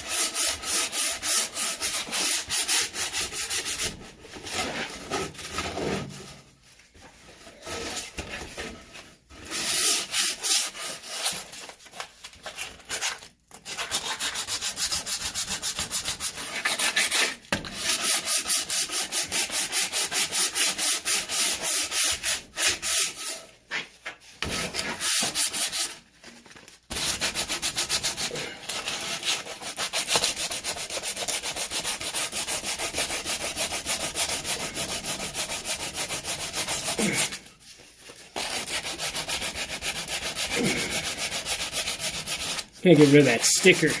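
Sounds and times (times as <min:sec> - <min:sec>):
sandpaper rasping on wood: 0:00.0 - 0:05.2, 0:09.4 - 0:11.5, 0:13.6 - 0:26.0, 0:26.9 - 0:37.4, 0:38.4 - 0:44.0.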